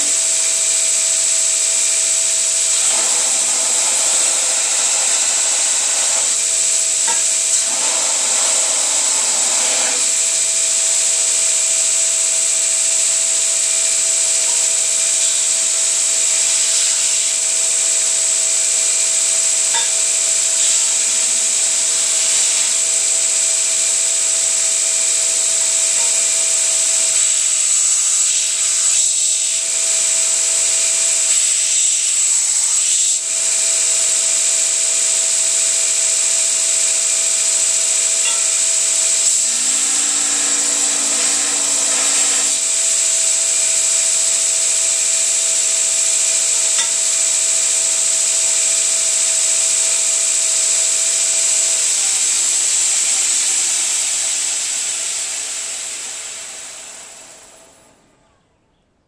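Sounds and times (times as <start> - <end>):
belt grinder running: 0.0 - 57.9.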